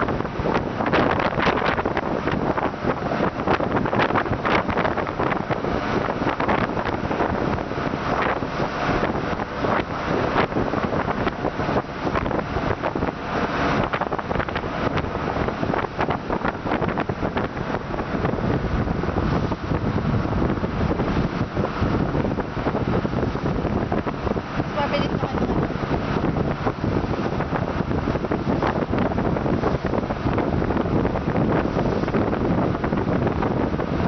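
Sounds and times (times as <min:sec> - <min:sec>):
rush of wind and water: 0:00.0 - 0:34.0
wind buffeting on microphone: 0:00.0 - 0:34.0.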